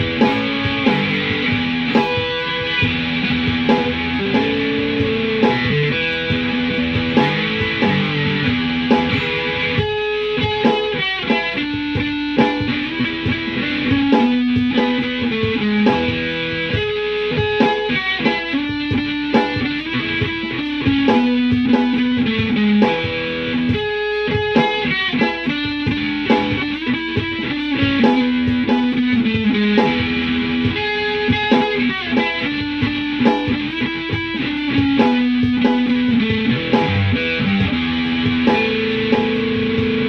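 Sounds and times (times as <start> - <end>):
electric guitar melody: 0.0 - 40.0.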